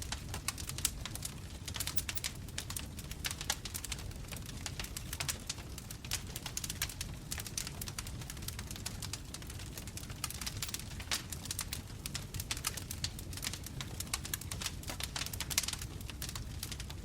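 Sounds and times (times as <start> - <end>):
burning wood snapping and popping: 0.0 - 17.0
low rumble of flames: 0.0 - 17.0.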